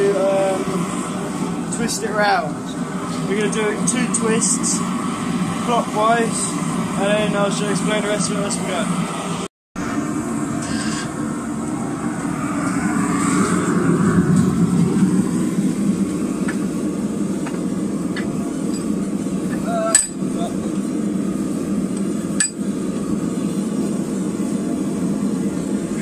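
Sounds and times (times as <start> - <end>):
gas forge burner rushing: 0.0 - 26.0.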